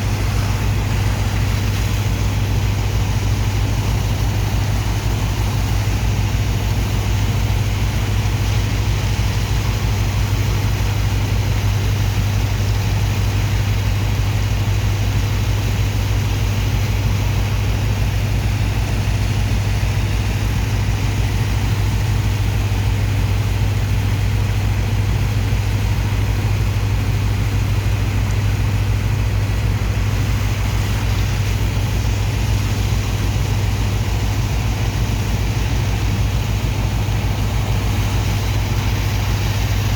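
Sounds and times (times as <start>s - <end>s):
large diesel engine running: 0.0s - 39.9s
steady hiss: 0.0s - 39.9s.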